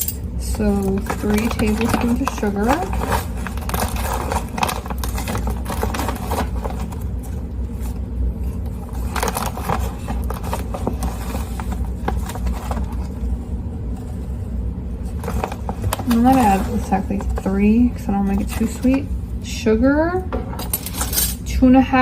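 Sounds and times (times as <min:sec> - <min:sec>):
steady low rumble: 0:00.0 - 0:20.4.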